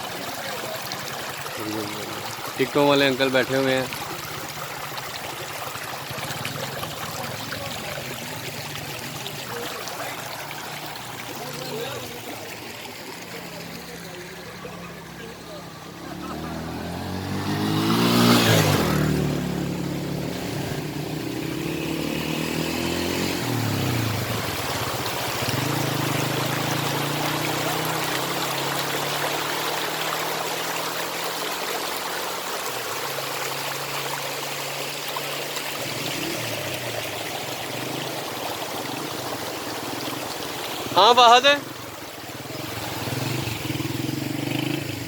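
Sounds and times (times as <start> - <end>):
motor vehicle passing: 1.6 - 45.0.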